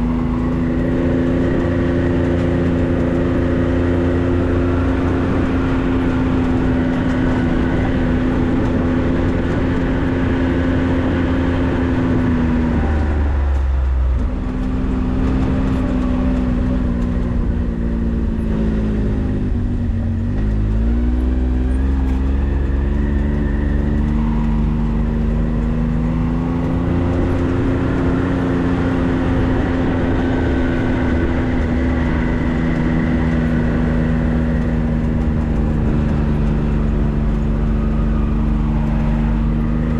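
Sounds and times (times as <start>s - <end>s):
vehicle engine driving: 0.0s - 39.9s.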